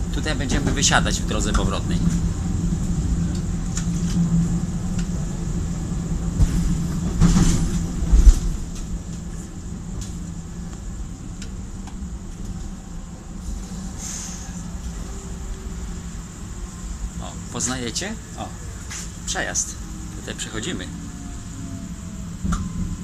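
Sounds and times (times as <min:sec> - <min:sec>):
train running rumble and hum: 0:00.0 - 0:23.0.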